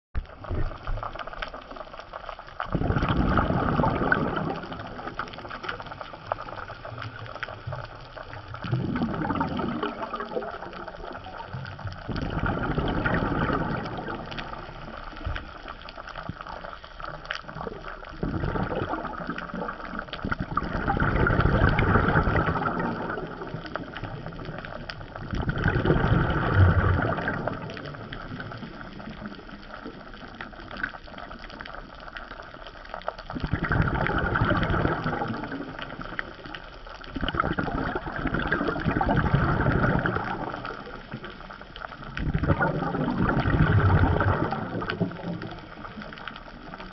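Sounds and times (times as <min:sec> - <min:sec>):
underwater water rush: 0:00.2 - 0:46.9.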